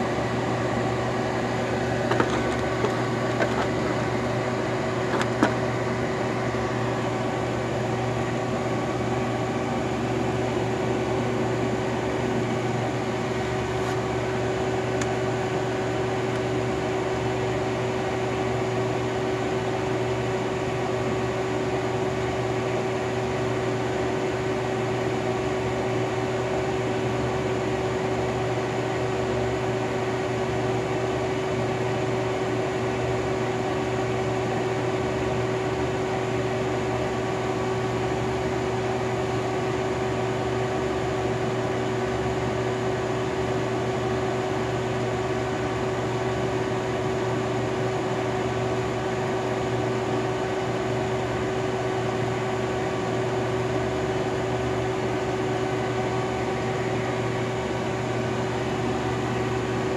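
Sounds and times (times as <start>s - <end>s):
vacuum pump humming: 0.0s - 59.9s.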